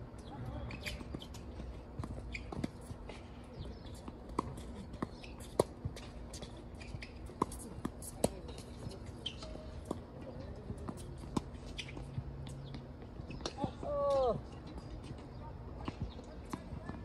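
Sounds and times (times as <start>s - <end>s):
tennis ball bouncing: 0.4s - 17.0s
tennis racquets hitting ball: 0.6s - 17.0s.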